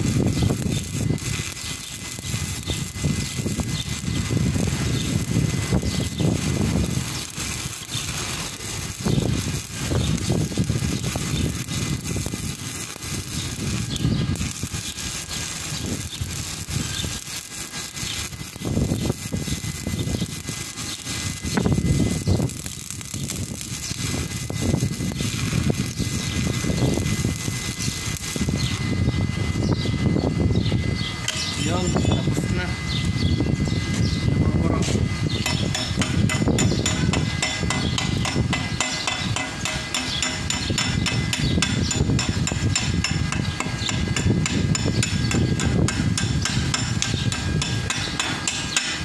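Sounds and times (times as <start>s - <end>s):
welding arc crackling: 0.0s - 49.0s.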